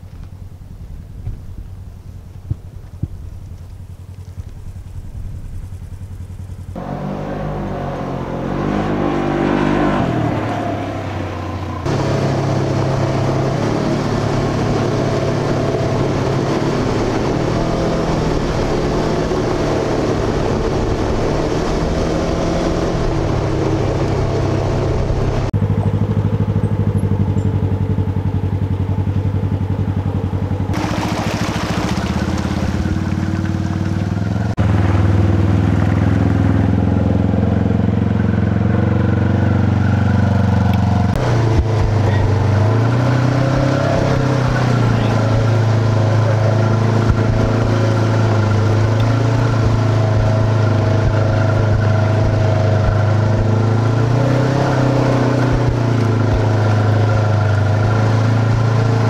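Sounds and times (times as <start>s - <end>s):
vehicle engine revving: 3.8s - 59.0s.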